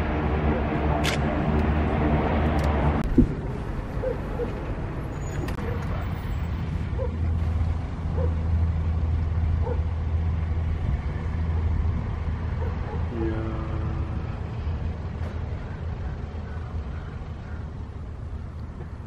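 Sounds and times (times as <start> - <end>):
turboprop engines droning: 0.0 - 19.0.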